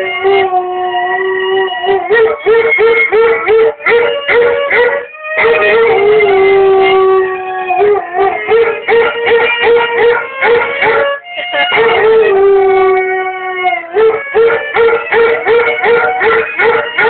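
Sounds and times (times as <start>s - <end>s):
dog howling: 0.0s - 17.0s.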